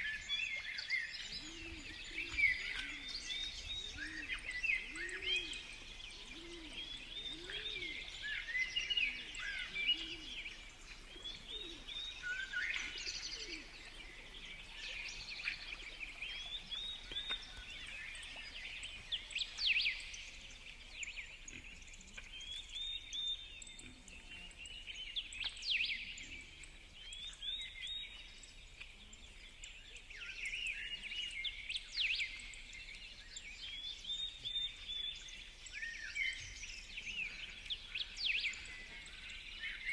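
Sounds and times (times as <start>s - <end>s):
small birds chirping: 1.0s - 39.9s.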